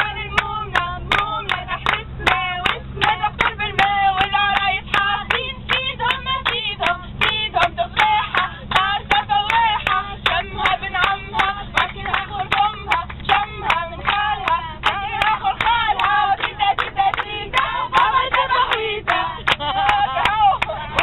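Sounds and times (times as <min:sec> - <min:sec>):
group singing together: 0:00.0 - 0:21.0
low engine hum: 0:00.0 - 0:21.0
people clapping in rhythm: 0:00.0 - 0:21.0.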